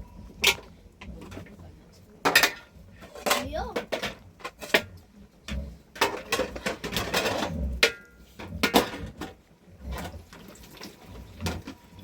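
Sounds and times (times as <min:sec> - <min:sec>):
dishes and metal utensils clattering: 0:00.3 - 0:11.9.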